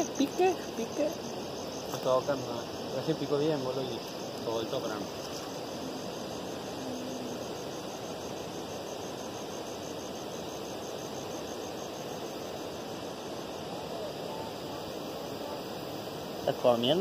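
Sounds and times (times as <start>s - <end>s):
crickets chirping: 0.0s - 17.0s
outdoor night hiss: 0.0s - 17.0s.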